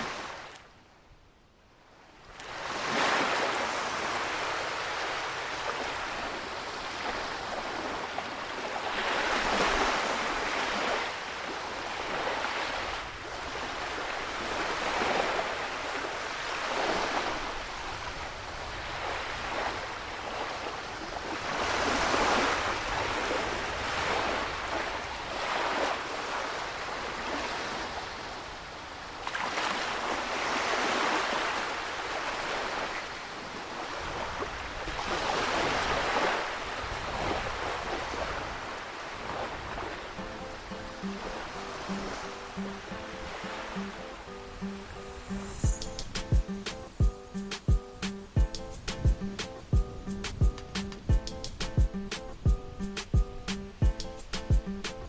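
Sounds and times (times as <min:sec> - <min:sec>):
waves breaking on rocky shore: 0:00.0 - 0:00.6, 0:02.2 - 0:55.0.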